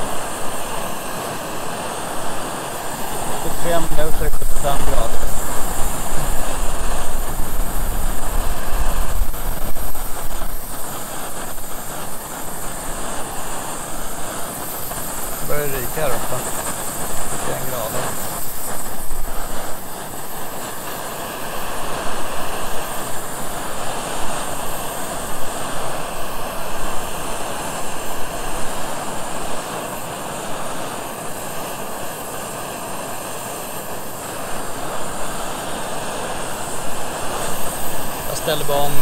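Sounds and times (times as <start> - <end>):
gas camping burner roaring: 0.0 - 39.0.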